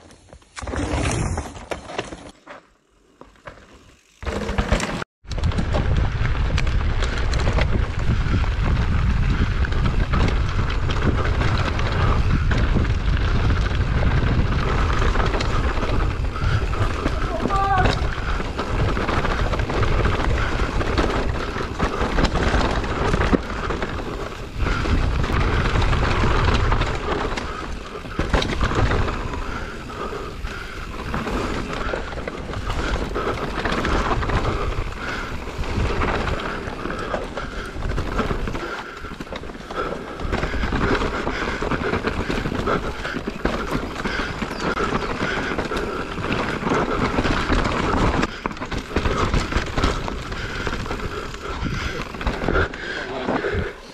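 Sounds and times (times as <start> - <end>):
bike tyres rolling over dirt: 0.0 - 53.9
bike chain and frame rattling: 3.5 - 53.9
wind rumble on microphone: 5.2 - 53.8.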